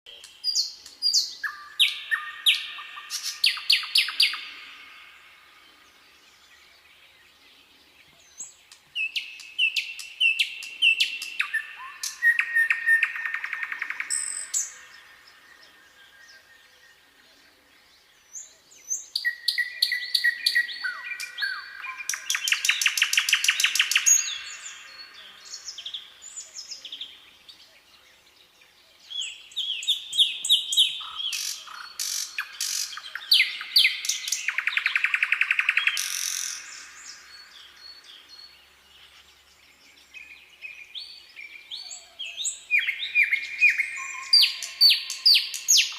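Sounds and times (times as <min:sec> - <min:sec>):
songbird singing with trill: 0:00.1 - 0:45.9.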